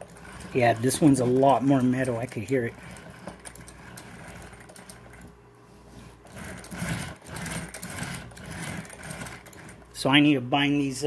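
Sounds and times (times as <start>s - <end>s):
toy car gears clicking and rattling: 0.0s - 5.3s, 6.3s - 9.8s.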